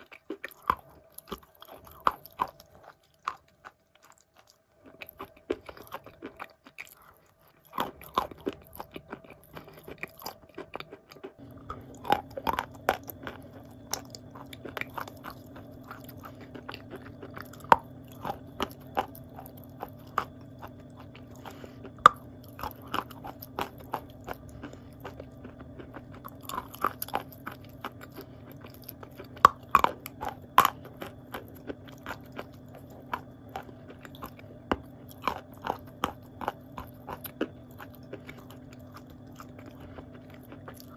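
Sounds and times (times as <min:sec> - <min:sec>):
clay being chewed with crunching: 0:00.0 - 0:40.9
steady low hum: 0:00.0 - 0:40.9.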